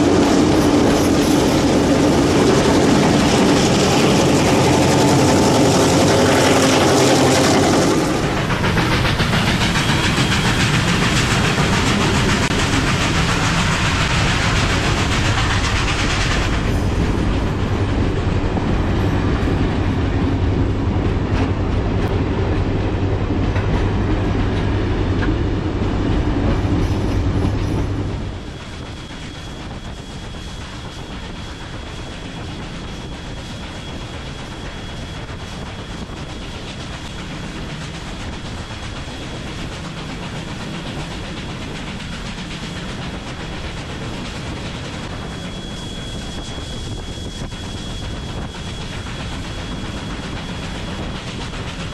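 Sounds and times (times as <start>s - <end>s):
train wheels clicking over rail joints: 0.0s - 18.8s, 19.8s - 51.9s
drone propeller hum: 0.0s - 51.9s.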